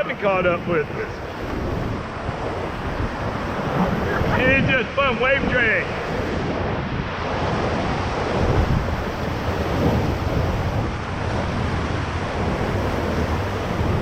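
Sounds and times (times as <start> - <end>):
whitewater rushing: 0.0 - 14.0
wind rumble on microphone: 0.0 - 14.0.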